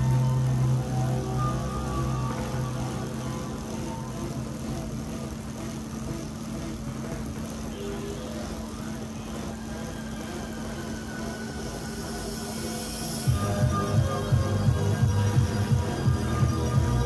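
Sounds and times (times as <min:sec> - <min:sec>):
bicycle tyres whirring on rollers: 0:00.0 - 0:17.0.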